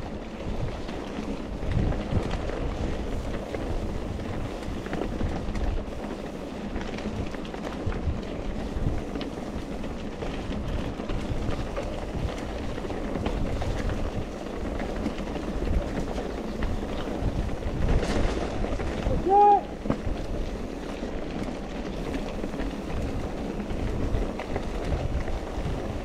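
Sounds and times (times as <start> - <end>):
bike rattles and clicks: 0.0 - 26.0
wind rumble on microphone: 0.0 - 26.0.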